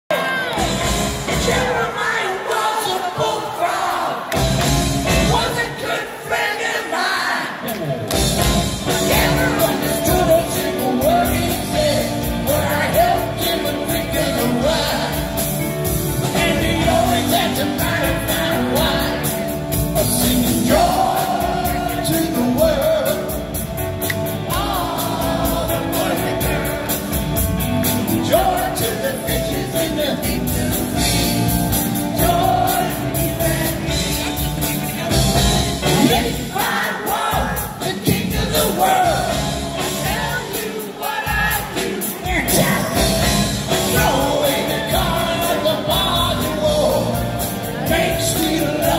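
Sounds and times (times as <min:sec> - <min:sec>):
live rock band playing: 0:00.1 - 0:02.2, 0:03.8 - 0:06.0, 0:07.5 - 0:48.9
man singing: 0:08.7 - 0:23.6, 0:24.5 - 0:48.9.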